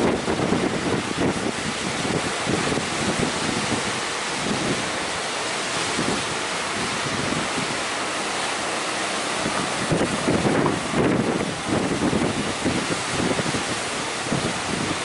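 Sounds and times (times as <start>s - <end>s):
sea surf rushing: 0.0s - 15.0s
wind buffeting microphone: 0.0s - 15.0s.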